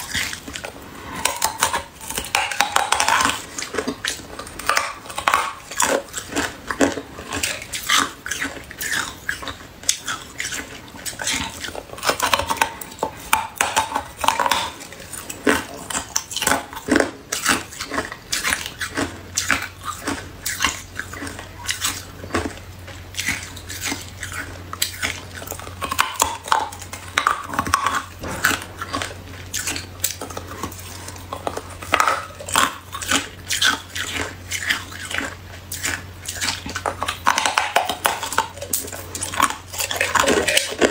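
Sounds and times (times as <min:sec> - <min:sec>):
ice being chewed and crunched: 0:00.0 - 0:40.9.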